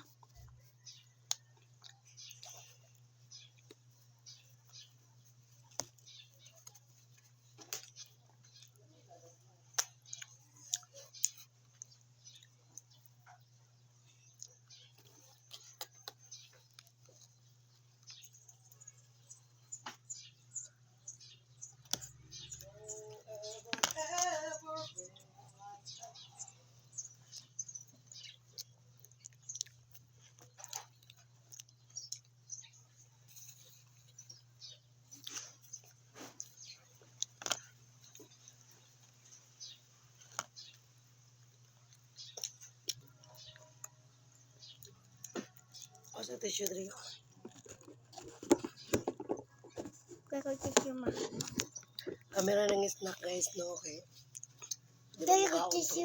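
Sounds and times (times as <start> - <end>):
person chewing food: 0.0 - 8.8, 9.4 - 24.4, 26.6 - 50.3, 51.0 - 52.4, 54.1 - 55.2
eating clicks and crunches: 0.0 - 56.0.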